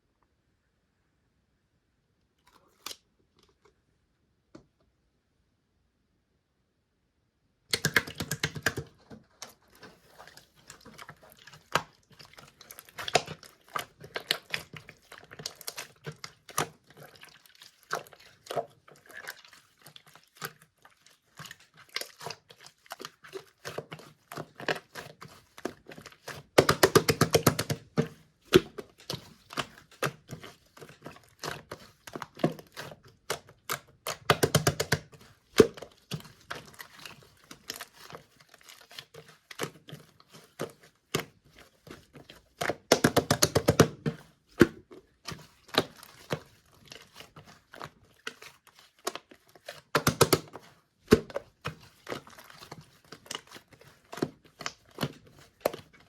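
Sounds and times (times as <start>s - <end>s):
handling clicks and crinkling: 7.7s - 56.0s.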